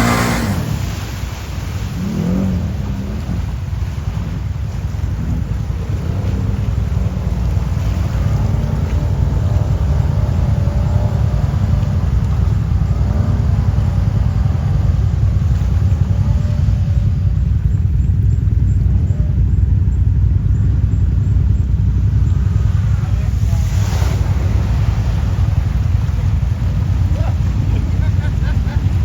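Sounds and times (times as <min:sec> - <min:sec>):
quad engine running: 0:00.0 - 0:29.0.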